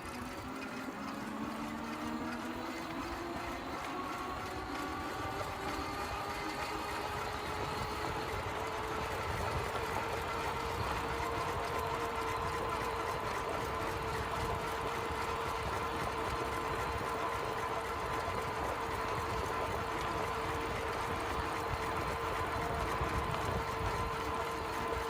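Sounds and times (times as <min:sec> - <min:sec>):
bicycle tyres and drivetrain whirring: 0:00.0 - 0:25.0.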